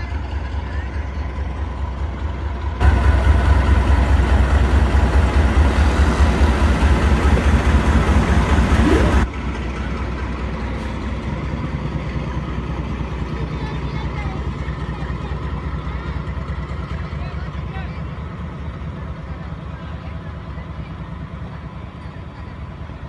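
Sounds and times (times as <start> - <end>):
locomotive engine humming: 0.0 - 23.0.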